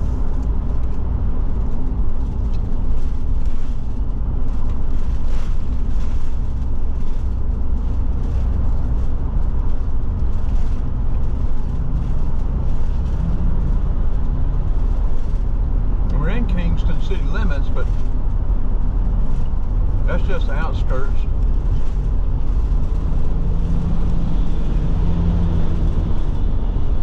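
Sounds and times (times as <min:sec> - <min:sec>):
motorhome engine and road rumble: 0:00.0 - 0:27.0.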